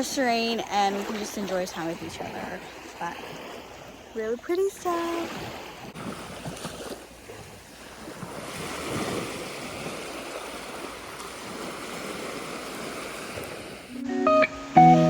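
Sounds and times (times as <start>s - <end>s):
small waves washing onto beach: 0.0s - 14.1s.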